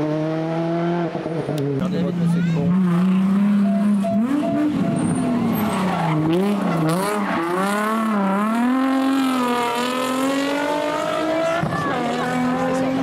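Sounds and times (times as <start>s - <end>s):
car engine revving: 0.0s - 13.0s
tyres skidding: 1.4s - 13.0s.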